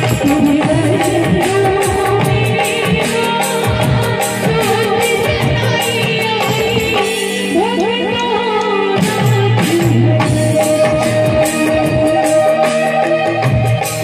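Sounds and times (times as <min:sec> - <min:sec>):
drums: 0:00.0 - 0:14.0
keyboard melody: 0:00.0 - 0:14.0.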